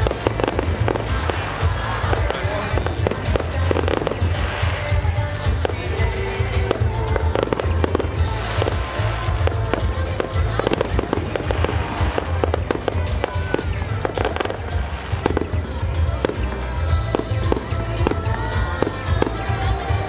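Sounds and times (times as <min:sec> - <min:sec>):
crowd voices: 0:00.0 - 0:20.0
fireworks bangs and crackles: 0:00.0 - 0:20.0
music: 0:00.0 - 0:20.0.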